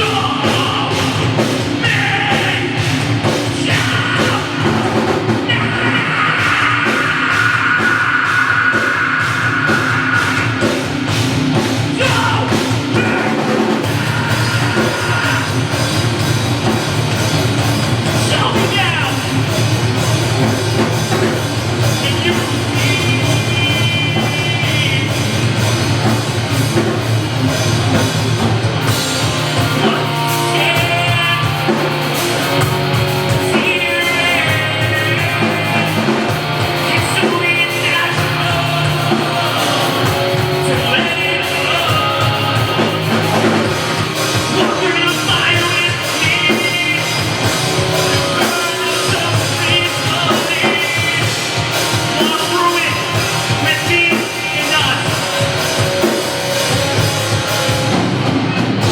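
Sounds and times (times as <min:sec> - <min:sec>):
person singing: 0:00.0 - 0:10.9, 0:11.6 - 0:16.0, 0:21.8 - 0:25.4, 0:29.2 - 0:57.3
bass guitar: 0:00.0 - 0:58.9
distorted electric guitars: 0:00.0 - 0:58.9
drum kit: 0:00.0 - 0:58.9.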